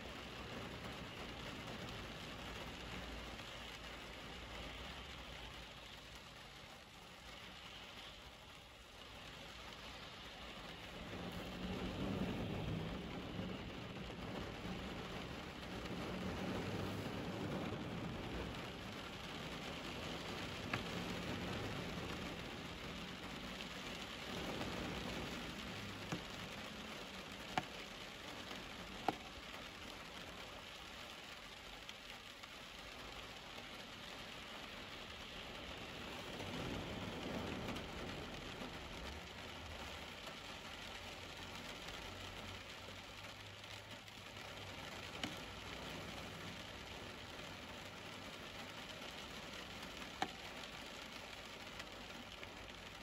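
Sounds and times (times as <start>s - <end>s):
car tyres swishing on wet road: 0.0s - 53.0s
heavy rain on window glass: 0.0s - 53.0s
raindrop clicks: 0.0s - 53.0s.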